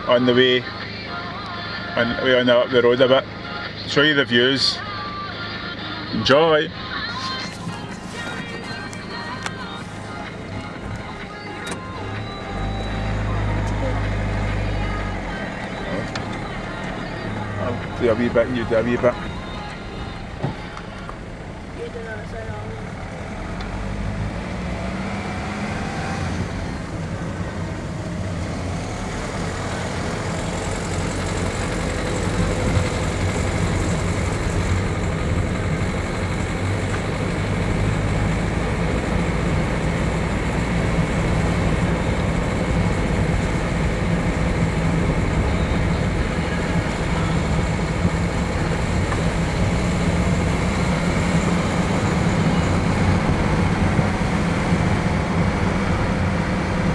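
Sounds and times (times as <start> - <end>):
van engine and tyre noise: 0.0 - 56.9.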